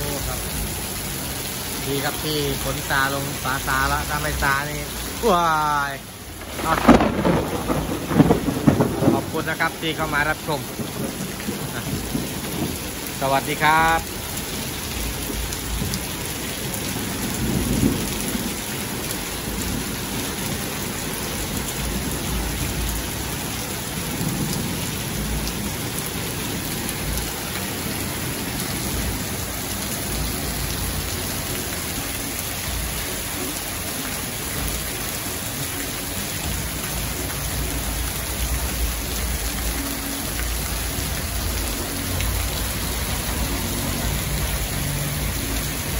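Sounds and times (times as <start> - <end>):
heavy rain on wet road: 0.0 - 45.9.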